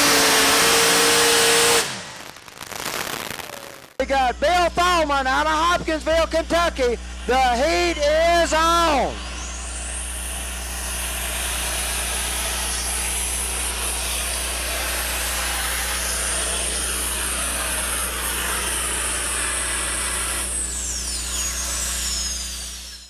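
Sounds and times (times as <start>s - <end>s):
pulling tractor engines roaring: 0.0s - 2.4s, 4.0s - 23.0s
high whine: 0.0s - 23.0s.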